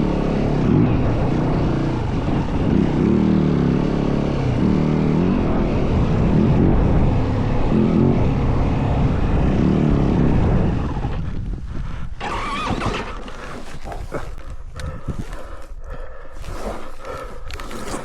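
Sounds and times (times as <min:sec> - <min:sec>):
dirt bike engine running hard: 0:00.0 - 0:15.8.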